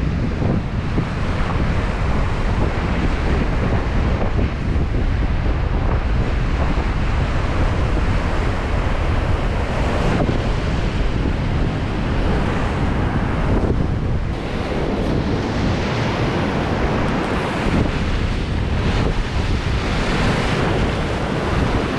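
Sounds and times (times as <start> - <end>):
rough sea waves breaking: 0.0 - 21.9
wind buffeting microphone: 0.0 - 21.9.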